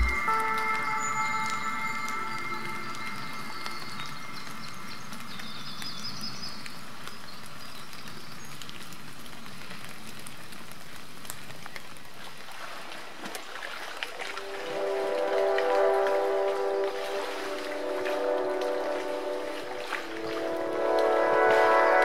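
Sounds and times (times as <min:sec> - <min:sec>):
light rain pattering on water: 0:00.0 - 0:22.0.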